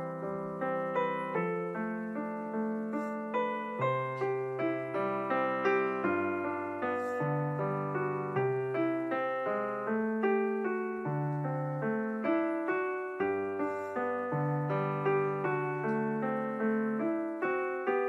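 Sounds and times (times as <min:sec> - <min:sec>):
background piano music: 0:00.0 - 0:18.0.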